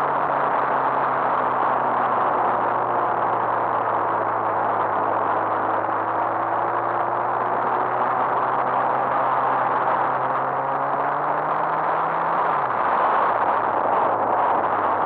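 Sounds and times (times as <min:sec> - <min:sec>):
motorcycle engine hum: 0:00.0 - 0:15.0
wind noise on microphone: 0:00.0 - 0:15.0.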